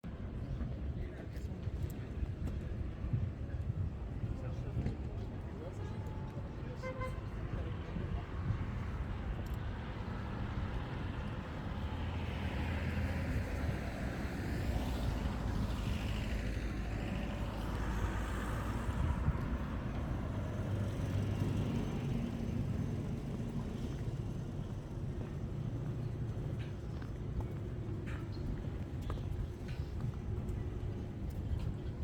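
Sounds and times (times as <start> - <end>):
vehicle engine rumble: 4.4 - 32.0.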